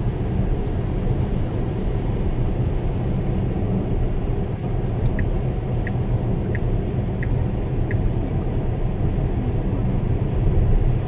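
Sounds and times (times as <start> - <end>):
road and tyre noise in car: 0.0 - 11.0.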